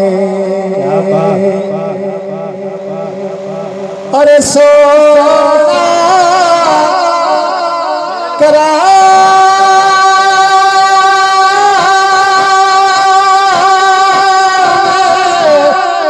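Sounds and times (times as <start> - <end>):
man singing over loudspeaker: 0.0 - 16.0.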